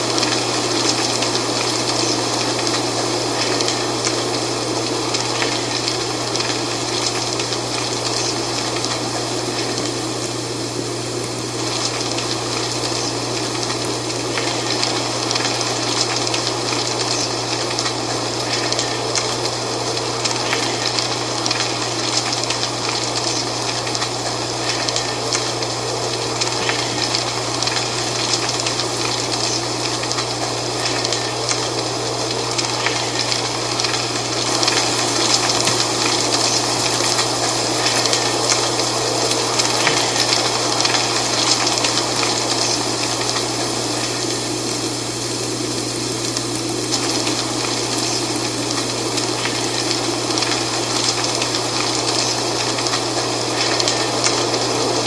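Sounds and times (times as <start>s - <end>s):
dry leaves rustling in wind: 0.0s - 55.0s.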